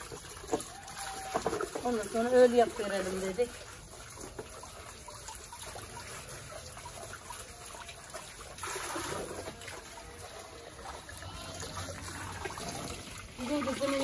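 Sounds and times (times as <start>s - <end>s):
water trickling into plastic container: 0.0s - 14.0s.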